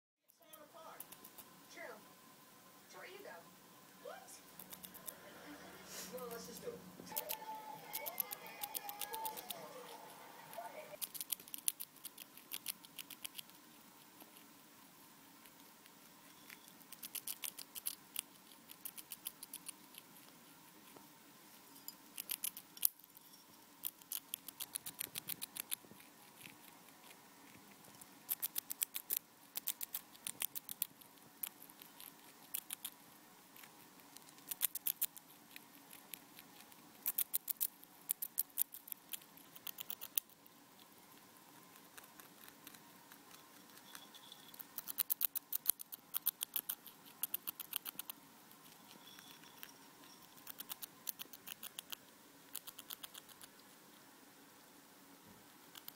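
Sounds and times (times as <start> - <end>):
rat crunching cereal: 0.3 - 1.5, 4.5 - 5.2, 6.3 - 14.6, 15.3 - 21.1, 21.9 - 54.1, 55.5 - 55.9.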